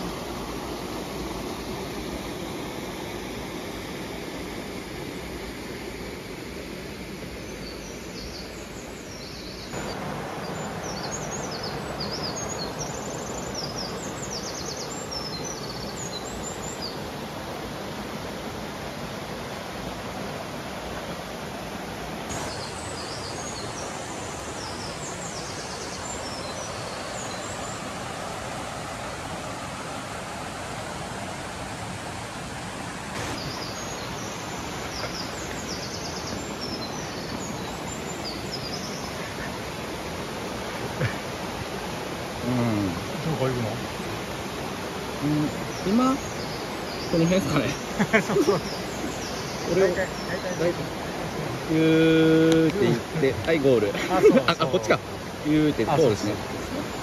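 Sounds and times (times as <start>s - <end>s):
mountain stream rushing: 0.0s - 57.0s
small birds chirping: 7.0s - 31.3s, 32.4s - 57.0s.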